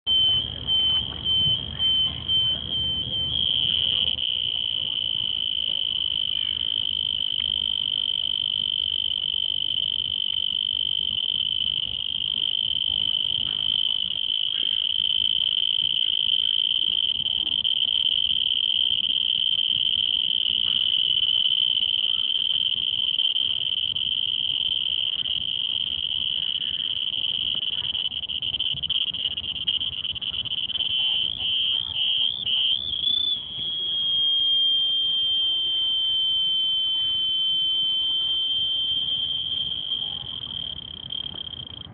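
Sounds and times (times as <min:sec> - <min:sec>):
cricket chirping: 0:00.1 - 0:41.9.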